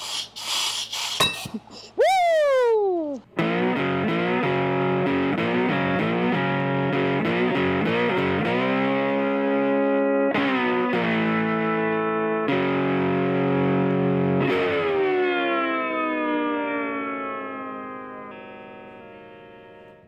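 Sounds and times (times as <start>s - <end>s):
distorted electric guitar: 3.3s - 20.0s.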